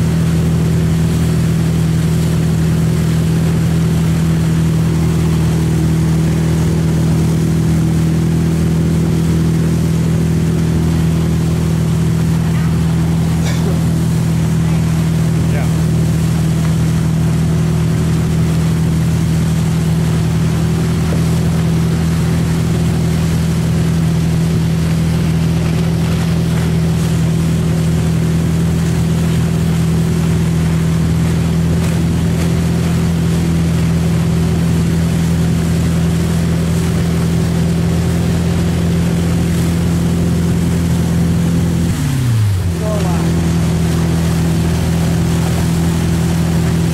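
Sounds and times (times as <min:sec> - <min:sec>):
boat engine droning: 0:00.0 - 0:46.9
hiss of churning wake: 0:00.0 - 0:46.9.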